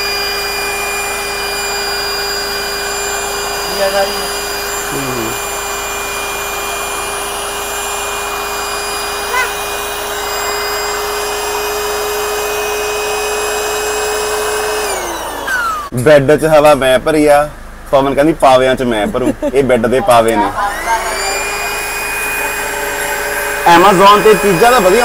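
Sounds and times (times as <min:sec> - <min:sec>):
electric air pump whining: 0:00.0 - 0:16.0, 0:19.0 - 0:25.0.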